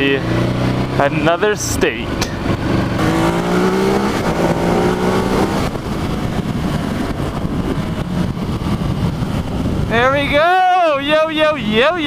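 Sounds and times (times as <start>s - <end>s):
motorcycle engine accelerating: 0.0s - 10.3s
wind and road noise: 0.0s - 12.0s.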